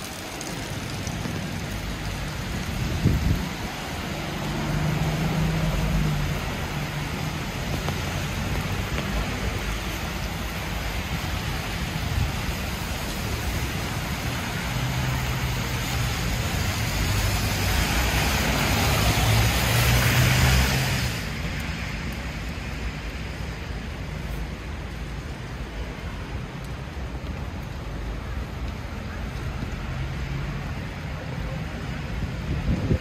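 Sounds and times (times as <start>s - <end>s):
steady rain hiss: 0.0s - 33.0s
traffic: 0.0s - 33.0s
vehicle passing on wet road: 0.0s - 33.0s.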